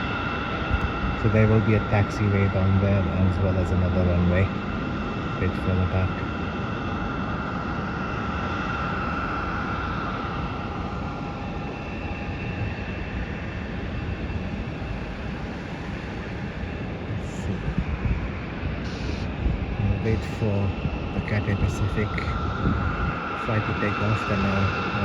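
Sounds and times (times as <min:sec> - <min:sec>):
distant jet engines whining: 0:00.0 - 0:25.0.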